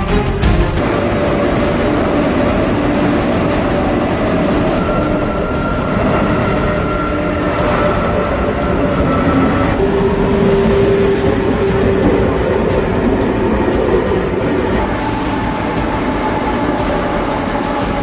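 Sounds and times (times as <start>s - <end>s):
high-speed train rushing: 0.0s - 18.0s.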